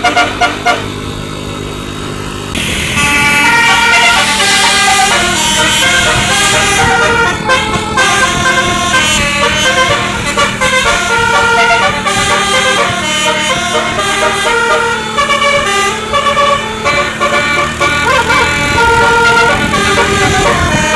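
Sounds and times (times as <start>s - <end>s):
multi-tone horn playing tune: 0.0s - 1.4s, 2.5s - 20.9s.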